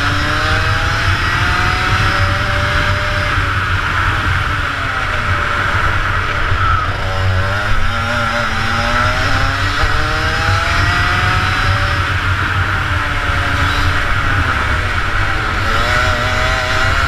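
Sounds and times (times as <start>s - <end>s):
kart engine at high revs: 0.0s - 17.0s.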